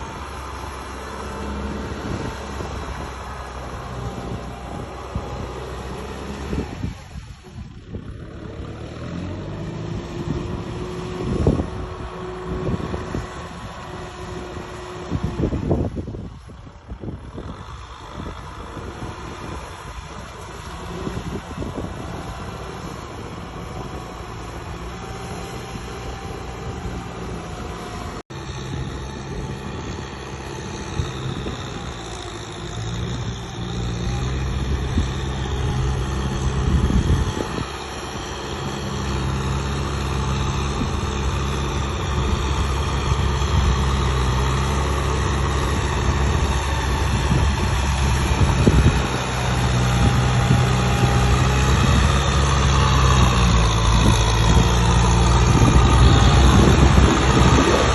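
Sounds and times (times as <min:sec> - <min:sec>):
heavy machinery diesel engine: 0:00.0 - 0:57.9.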